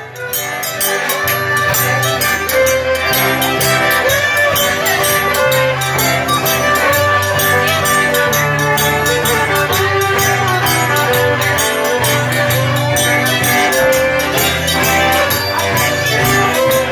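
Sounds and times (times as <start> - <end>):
live band playing upbeat tune: 0.0 - 16.9.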